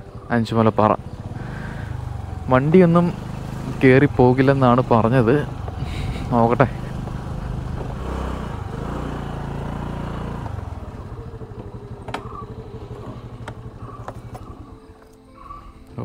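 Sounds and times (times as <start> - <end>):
motorcycle engine: 0.0 - 15.9.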